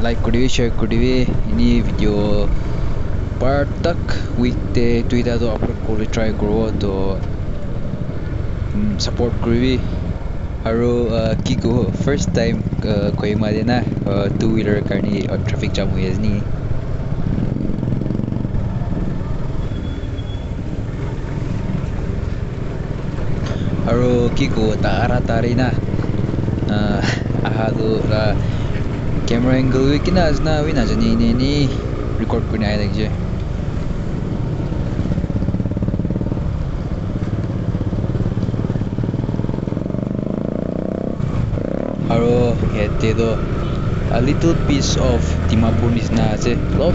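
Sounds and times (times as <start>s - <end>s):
motorcycle engine rumbling: 0.0s - 46.9s
road noise: 0.0s - 46.9s.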